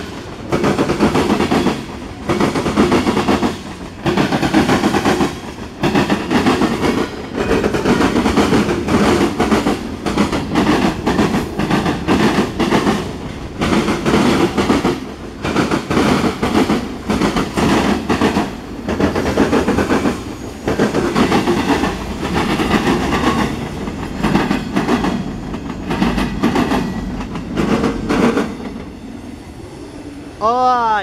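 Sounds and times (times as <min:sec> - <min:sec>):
wheels clacking over rail joints: 0:00.0 - 0:29.2
freight train rumble: 0:00.0 - 0:31.0.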